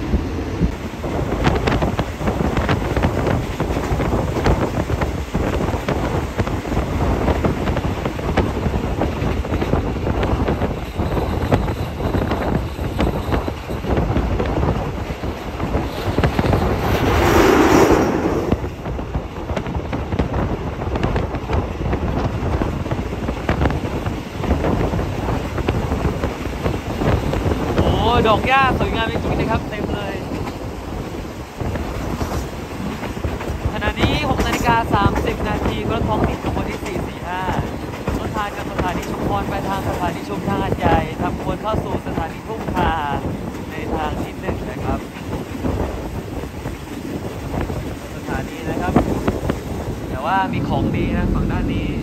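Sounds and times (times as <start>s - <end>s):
wind rushing past microphone: 0.0s - 52.0s
train wheels clattering on track: 0.5s - 50.8s.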